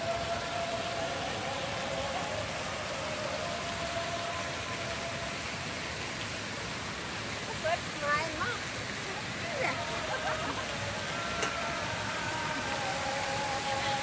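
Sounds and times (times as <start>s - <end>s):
fountain water spraying: 0.0s - 14.0s.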